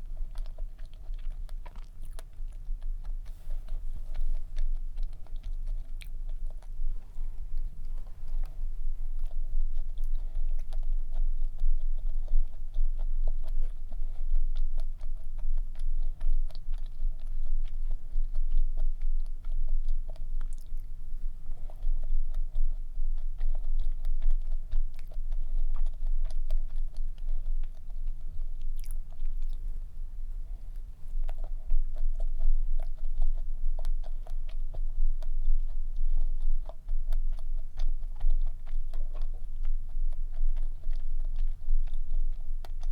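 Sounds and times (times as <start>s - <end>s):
close chewing of bread: 0.0s - 42.9s.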